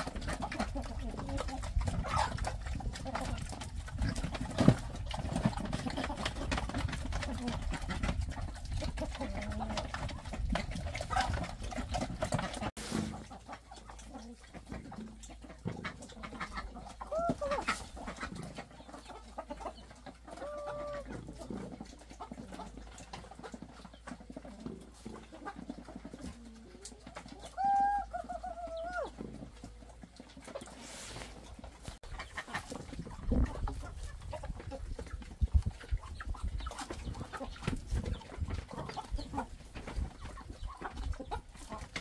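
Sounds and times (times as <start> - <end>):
chickens clucking and squawking: 0.0 - 42.0.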